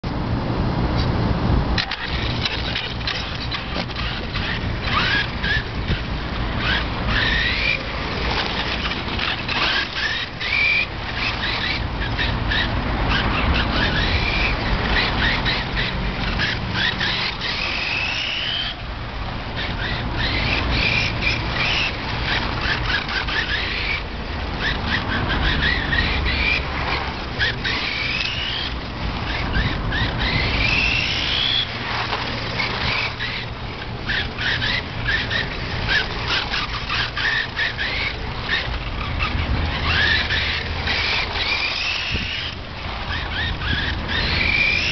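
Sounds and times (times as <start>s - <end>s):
electric motor whining: 1.8s - 44.9s.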